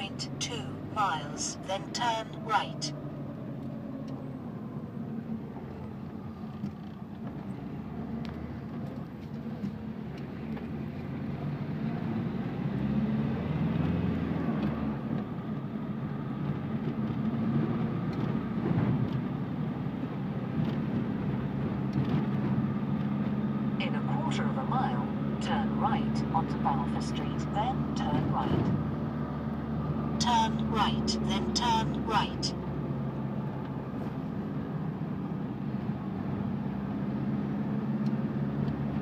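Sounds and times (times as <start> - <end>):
car engine and road hum: 0.0 - 39.0.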